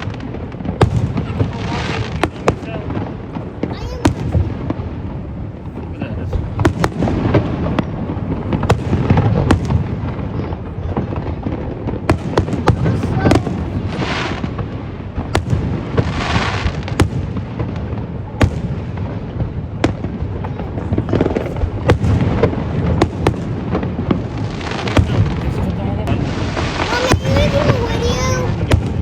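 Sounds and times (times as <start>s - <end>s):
fireworks bangs and cracks: 0.0s - 29.0s
hissing crackle: 0.0s - 29.0s
low rumble of booms: 0.0s - 29.0s.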